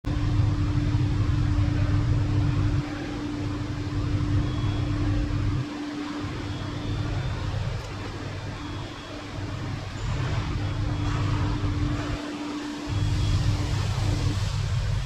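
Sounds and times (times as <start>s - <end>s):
low rumble: 0.0s - 15.0s
steady mechanical hum: 0.0s - 15.0s.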